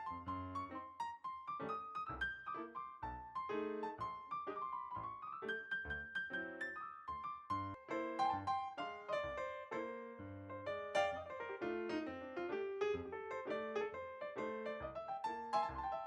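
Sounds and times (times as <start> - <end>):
quick piano run: 0.0 - 16.0.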